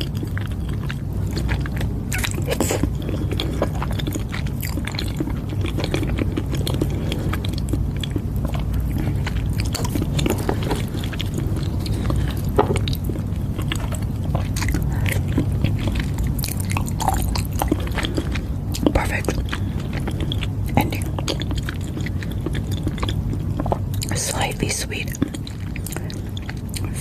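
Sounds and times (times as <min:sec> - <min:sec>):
mouth chewing soft pudding: 0:00.0 - 0:27.0
steady low hum: 0:00.0 - 0:27.0.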